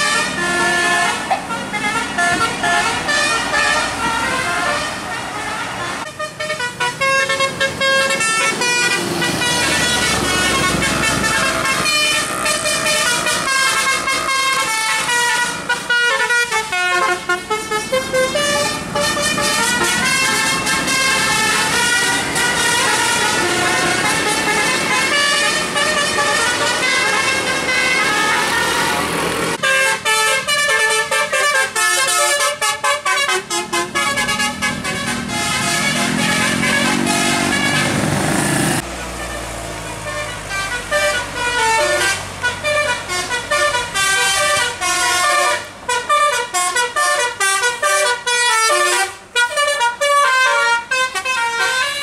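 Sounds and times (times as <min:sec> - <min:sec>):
bus horn playing tune: 0:00.0 - 0:52.0.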